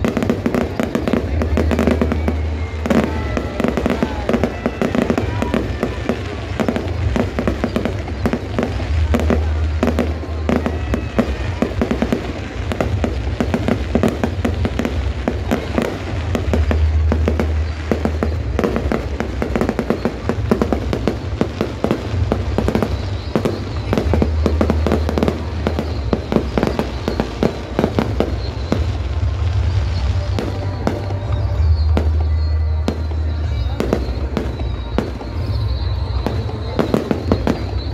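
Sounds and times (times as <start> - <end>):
fireworks popping and crackling: 0.0 - 37.9.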